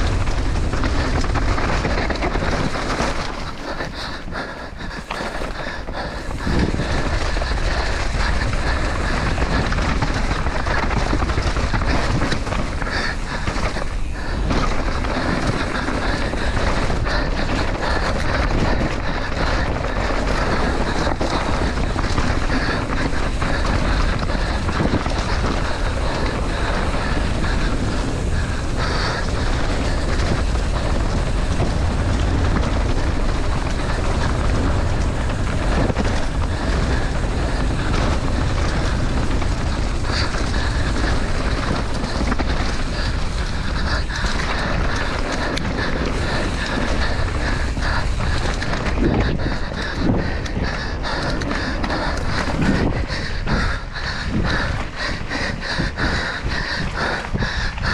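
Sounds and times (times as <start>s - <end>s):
bike rattling and knocking: 0.0s - 57.9s
wind rushing on microphone: 0.0s - 57.9s.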